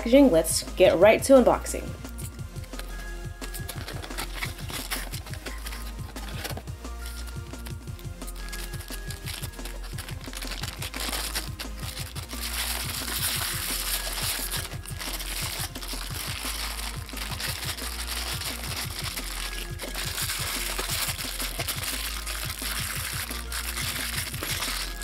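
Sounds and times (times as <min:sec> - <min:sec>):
background music: 0:00.0 - 0:25.0
plastic bags crinkling: 0:02.7 - 0:25.0.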